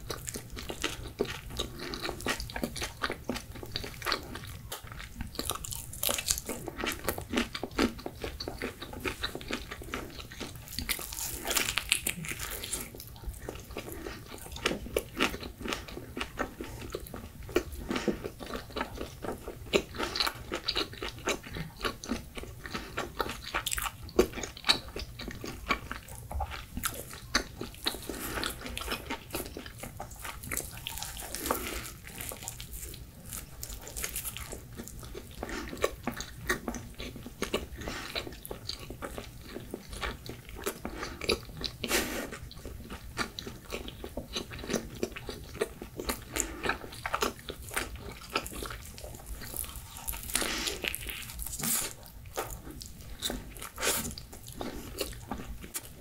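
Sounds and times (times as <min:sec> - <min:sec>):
person chewing pizza: 0:00.0 - 0:56.0.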